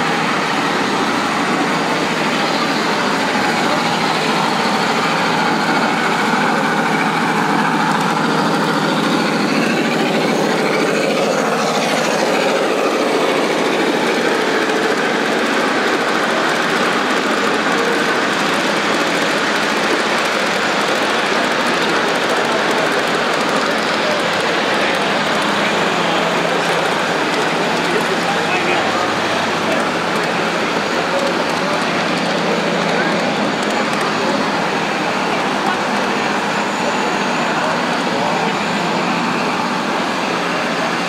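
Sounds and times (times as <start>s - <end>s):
model train rumbling on track: 0.0s - 41.0s.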